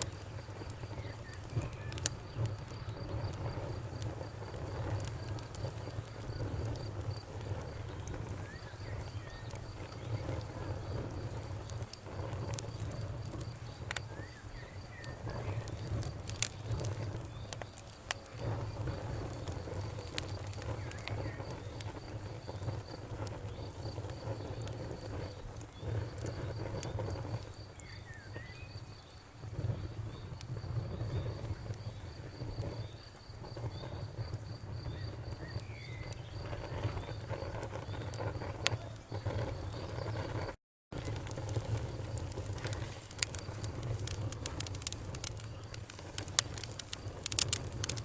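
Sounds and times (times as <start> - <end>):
campfire crackling and popping: 0.0 - 48.0
insects chirping: 0.0 - 48.0.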